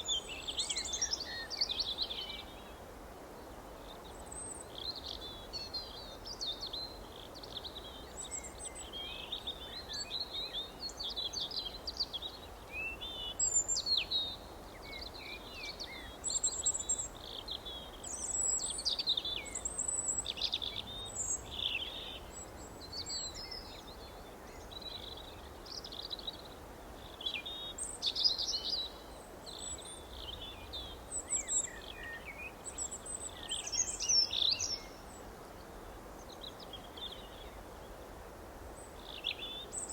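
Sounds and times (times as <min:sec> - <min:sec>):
faint steady background hiss: 0:00.0 - 0:39.9.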